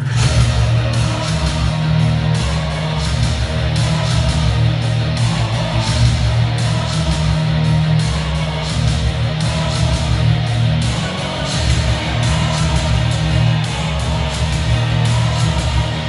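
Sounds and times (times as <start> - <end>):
rock music through speakers: 0.0 - 16.0.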